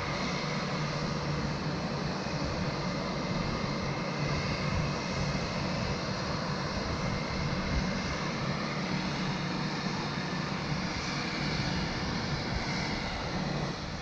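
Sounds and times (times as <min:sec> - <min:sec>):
turboprop aircraft engines droning: 0:00.0 - 0:14.0.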